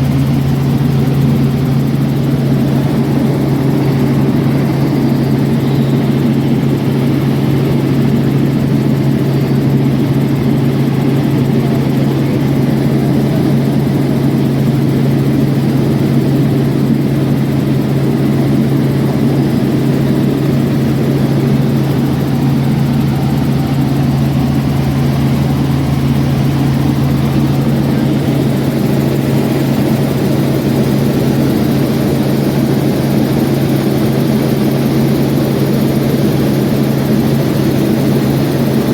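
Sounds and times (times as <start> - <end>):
light aircraft engine droning: 0.0 - 38.9.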